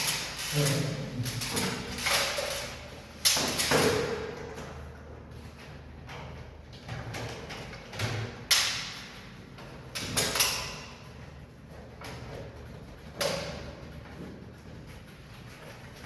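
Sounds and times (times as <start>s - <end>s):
sharp knocks and clanks: 0.0s - 5.0s, 5.8s - 16.0s.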